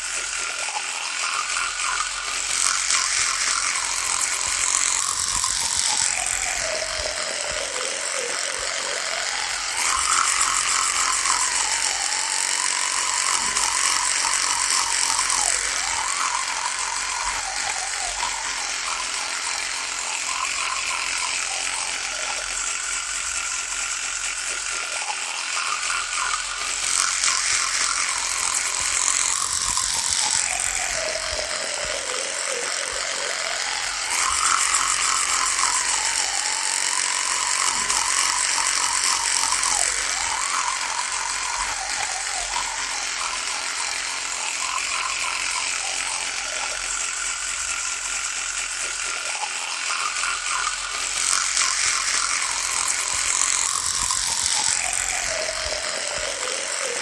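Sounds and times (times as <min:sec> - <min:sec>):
electric toothbrush buzzing: 0:00.0 - 0:57.0.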